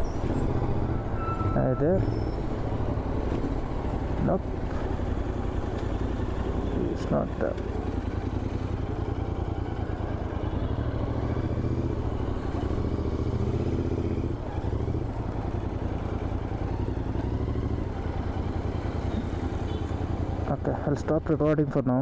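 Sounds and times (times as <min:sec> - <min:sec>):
motorcycle engine idling: 0:02.7 - 0:20.6.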